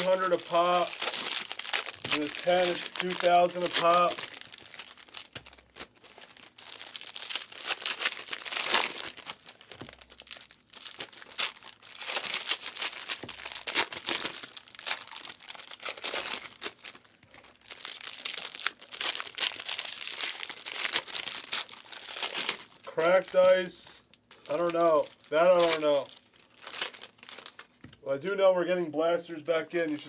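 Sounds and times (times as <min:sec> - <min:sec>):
card pack wrappers crinkling and tearing: 0:00.0 - 0:28.0, 0:29.3 - 0:30.0.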